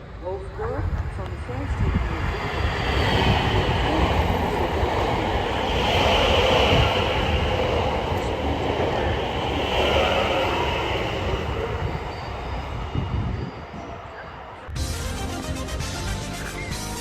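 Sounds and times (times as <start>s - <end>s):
train rolling on rails: 0.0s - 16.8s.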